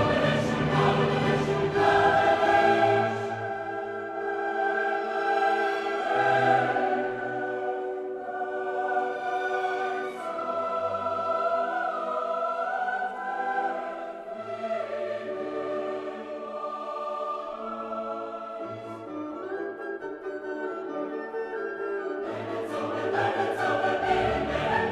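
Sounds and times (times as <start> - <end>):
choral singing: 0.0 - 20.0, 22.2 - 24.9.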